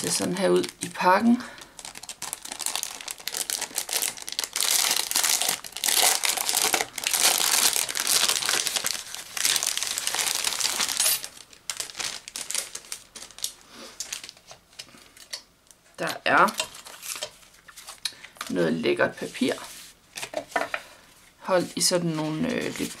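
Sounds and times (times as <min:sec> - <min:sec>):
crinkly packaging crackling: 0:00.0 - 0:20.6, 0:21.5 - 0:23.0.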